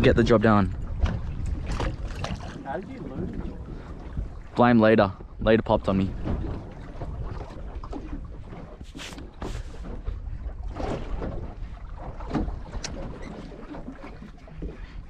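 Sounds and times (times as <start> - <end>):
water slapping against boat hull: 0.0 - 15.0
wind rumble on microphone: 0.0 - 15.0.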